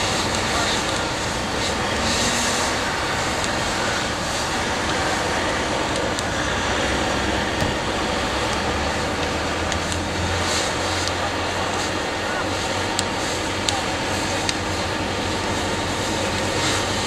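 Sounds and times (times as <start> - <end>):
burning truck rushing noise: 0.0 - 17.0
deep engine hum: 0.0 - 17.0
passing road traffic: 0.0 - 17.0.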